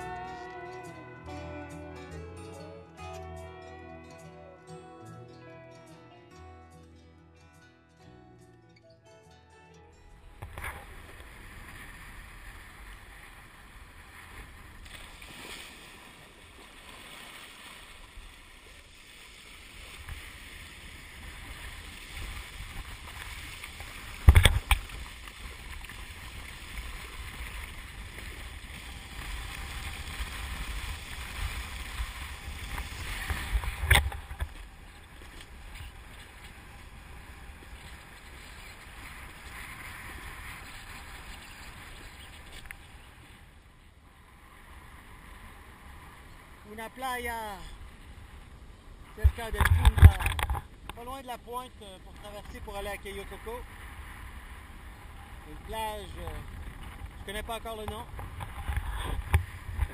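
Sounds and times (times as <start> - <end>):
water and wind rushing: 10.2 - 59.9.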